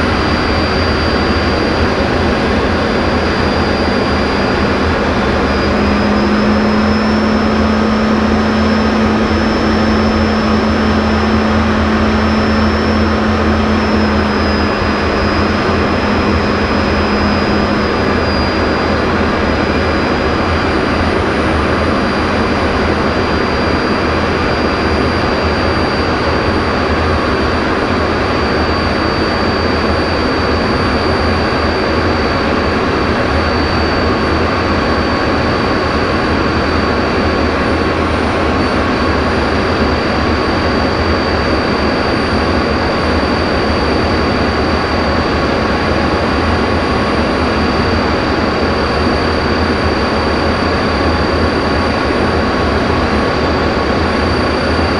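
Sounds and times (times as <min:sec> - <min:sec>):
jet engine roaring in cockpit: 0:00.0 - 0:54.9
thin high whine: 0:00.0 - 0:54.9.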